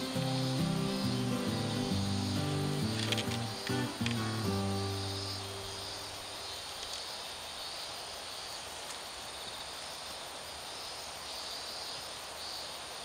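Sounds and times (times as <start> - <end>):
insects chirping: 0.0 - 13.0
insects trilling: 0.0 - 13.0.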